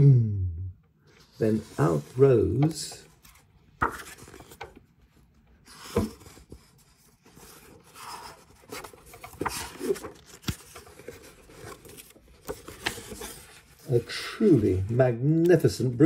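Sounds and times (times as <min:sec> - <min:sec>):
paper pages rustling: 0:01.1 - 0:16.0.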